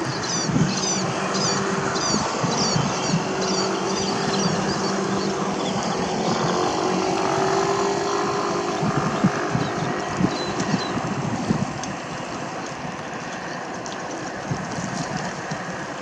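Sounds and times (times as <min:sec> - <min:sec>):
low engine drone: 0:00.0 - 0:16.0
small waves lapping: 0:00.0 - 0:16.0
wind buffeting microphone: 0:00.0 - 0:16.0.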